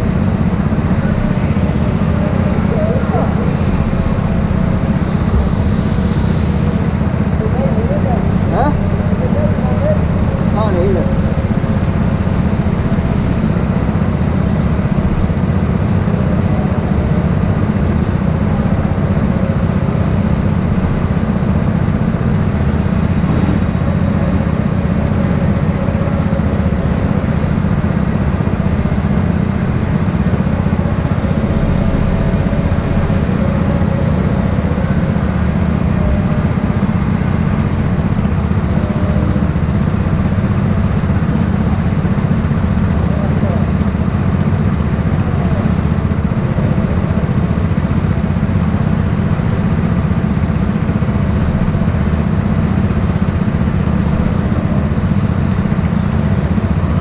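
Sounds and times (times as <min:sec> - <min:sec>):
go-kart engine rumbling: 0:00.0 - 0:57.0.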